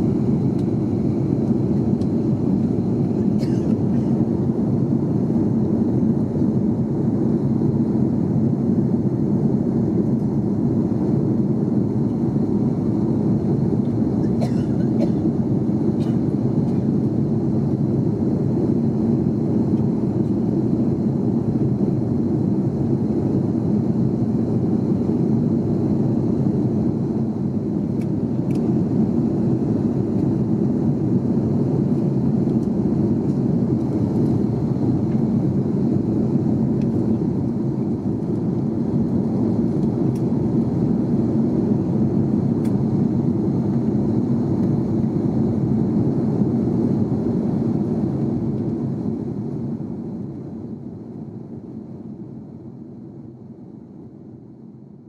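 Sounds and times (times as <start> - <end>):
aircraft cabin engine roar: 0.0 - 55.0.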